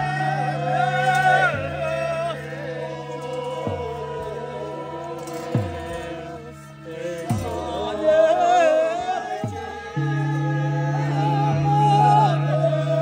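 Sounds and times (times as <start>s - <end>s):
drum strokes: 0.0s - 13.0s
person singing wavering melody: 0.0s - 13.0s
steady low drone: 0.0s - 13.0s.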